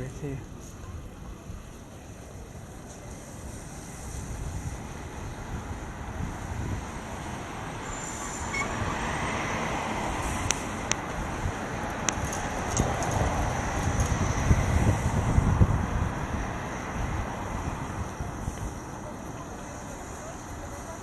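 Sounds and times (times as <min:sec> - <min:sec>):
tyres hissing on wet road: 0:00.0 - 0:21.0
wind rumble on microphone: 0:00.0 - 0:21.0.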